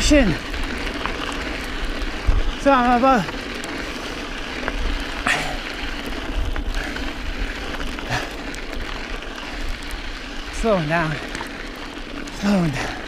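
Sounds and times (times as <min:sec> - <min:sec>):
bike rattling: 0:00.0 - 0:13.0
tyres crunching on loose stones: 0:00.0 - 0:13.0.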